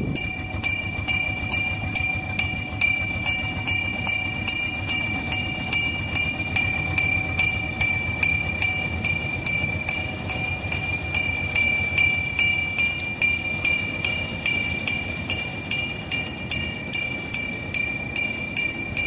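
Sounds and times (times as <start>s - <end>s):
hand-rung bell ringing: 0.0s - 19.0s
locomotive engine running: 0.0s - 19.0s.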